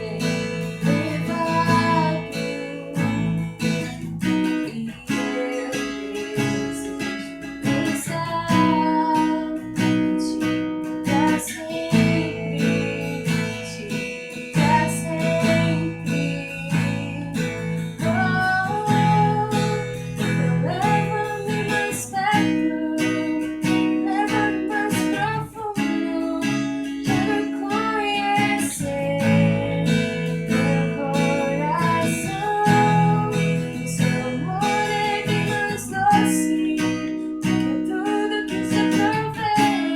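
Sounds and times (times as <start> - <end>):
acoustic guitar strumming: 0.0 - 39.9
woman singing: 0.0 - 39.9.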